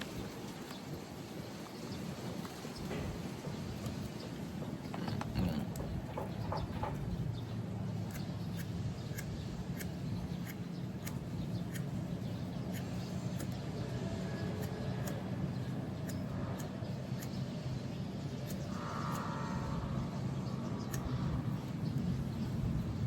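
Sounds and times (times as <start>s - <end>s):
low background rumble: 3.6s - 23.0s.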